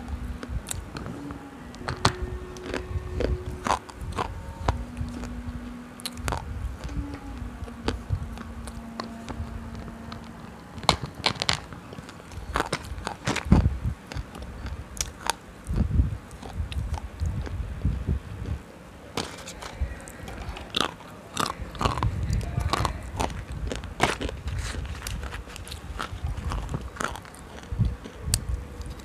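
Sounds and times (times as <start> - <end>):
biting and crunching: 0.0 - 29.0.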